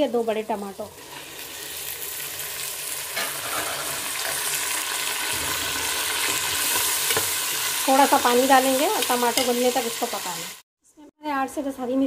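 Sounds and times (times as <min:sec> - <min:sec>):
vegetables sizzling in hot oil: 0:00.0 - 0:10.6.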